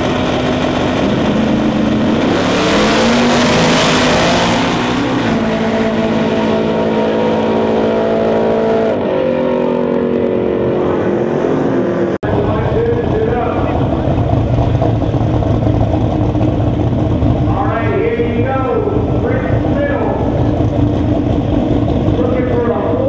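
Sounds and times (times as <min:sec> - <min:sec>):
race car engines revving: 0:00.0 - 0:23.0
race cars launching: 0:00.0 - 0:23.0.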